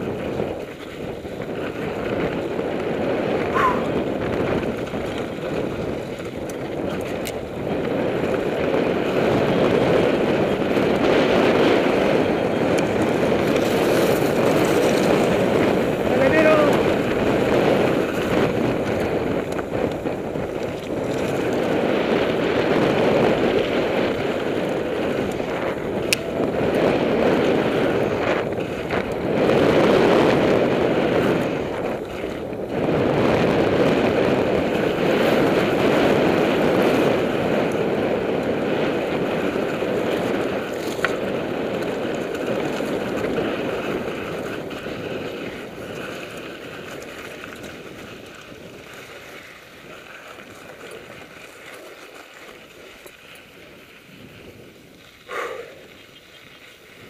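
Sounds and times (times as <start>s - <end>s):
bike tyres rolling over gravel: 0.0s - 57.0s
wind rushing over microphone: 0.0s - 57.0s
bike rattling clicks: 0.3s - 54.2s.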